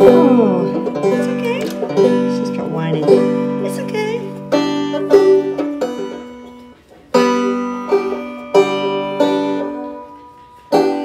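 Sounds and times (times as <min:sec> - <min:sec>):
banjo chords strummed: 0:00.0 - 0:11.0.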